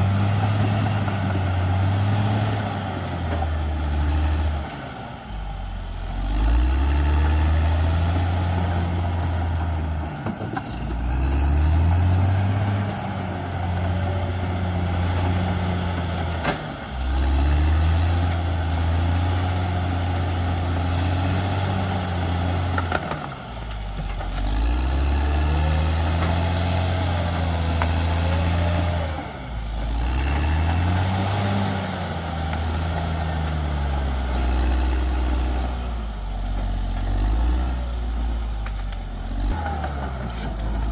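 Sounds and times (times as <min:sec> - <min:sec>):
bulldozer diesel engine revving: 0:00.0 - 0:40.9.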